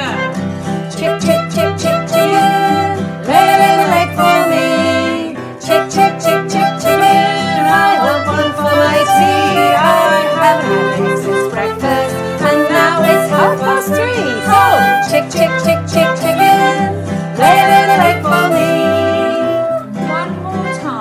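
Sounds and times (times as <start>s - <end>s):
acoustic guitar: 0.0s - 21.0s
clarinet: 0.0s - 21.0s
fiddle: 0.0s - 21.0s
women singing: 0.9s - 21.0s.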